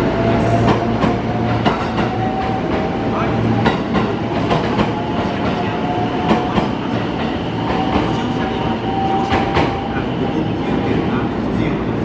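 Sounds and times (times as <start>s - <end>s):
train whine: 0.0s - 12.0s
train wheels clacking: 0.2s - 10.2s.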